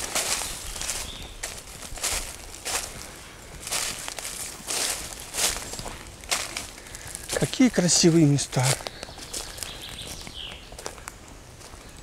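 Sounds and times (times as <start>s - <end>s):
footsteps on dry leaves: 0.0s - 12.0s.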